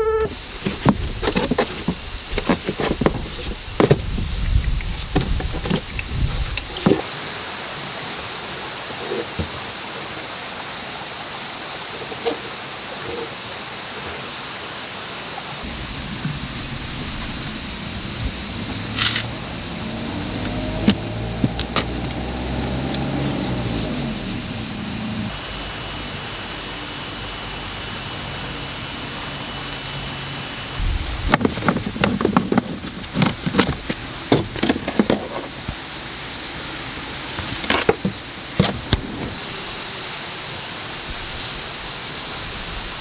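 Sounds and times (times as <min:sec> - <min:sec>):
air conditioner hissing squeal: 0:00.0 - 0:43.0.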